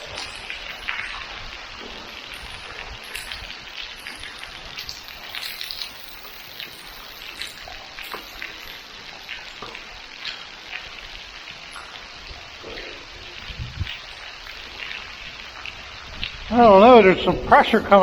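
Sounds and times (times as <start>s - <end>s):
water drops pattering: 0.0s - 18.0s
water trickling: 0.0s - 18.0s.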